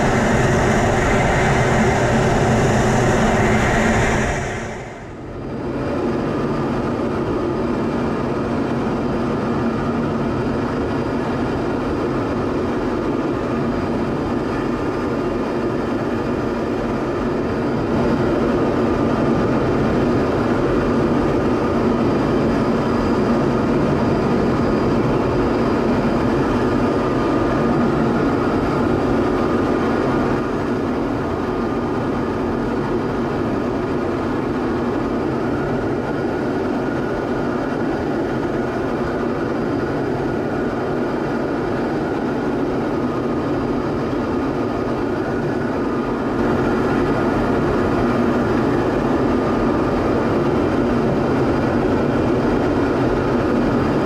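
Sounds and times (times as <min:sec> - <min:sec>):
faint steady whines: 0:00.0 - 0:54.0
jet engine and airflow rush: 0:00.0 - 0:54.0.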